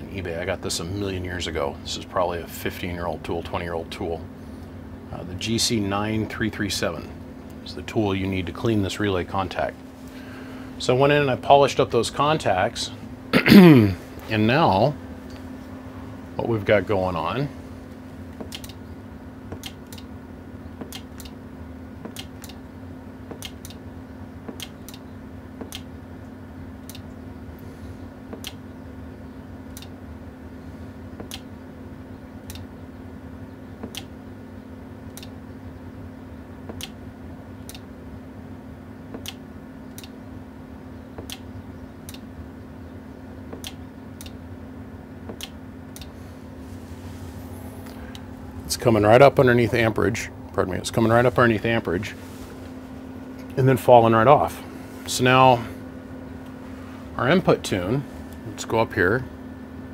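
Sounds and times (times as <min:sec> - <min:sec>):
power supply hum: 0:00.0 - 0:59.9.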